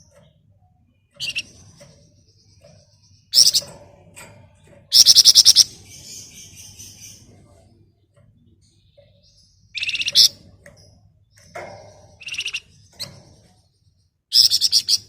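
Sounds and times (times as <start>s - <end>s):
songbird chirping and rattling: 0.0s - 15.0s.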